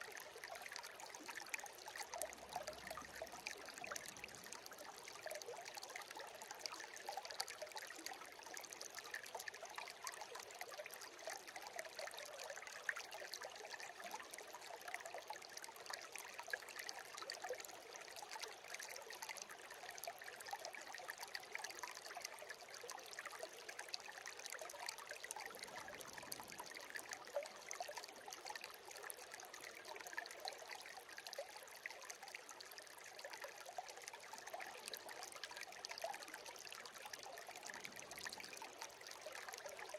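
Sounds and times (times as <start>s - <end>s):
stream babbling over stones: 0.0s - 21.6s, 22.3s - 39.9s.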